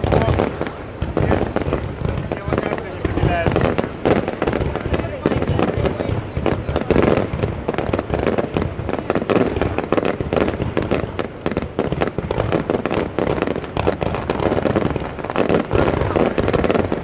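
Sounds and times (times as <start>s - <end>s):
distant firework bangs: 0.0s - 17.0s
firecrackers crackling: 0.0s - 17.0s.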